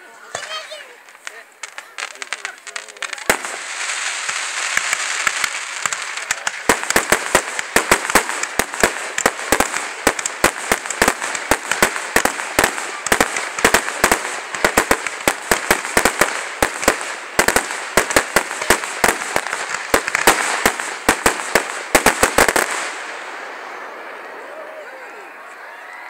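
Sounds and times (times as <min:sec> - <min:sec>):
fireworks crackle: 0:00.0 - 0:26.0
fireworks bangs: 0:00.2 - 0:26.0.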